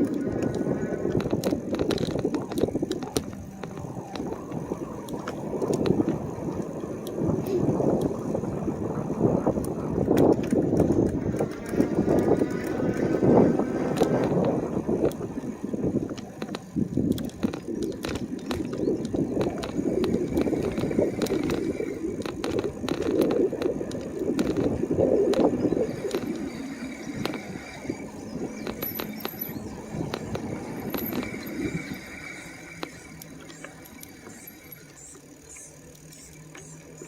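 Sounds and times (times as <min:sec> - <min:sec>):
tyre and wind rumble: 0:00.0 - 0:35.3
bike rattling and clicking: 0:00.0 - 0:37.0.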